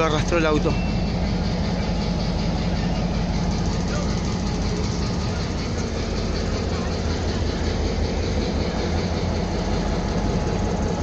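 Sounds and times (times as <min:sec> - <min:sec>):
diesel locomotive idling: 0:00.0 - 0:11.0.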